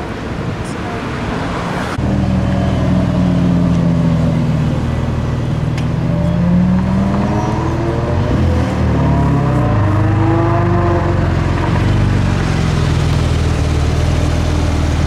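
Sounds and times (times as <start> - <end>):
sports car engine accelerating: 2.0 - 15.0.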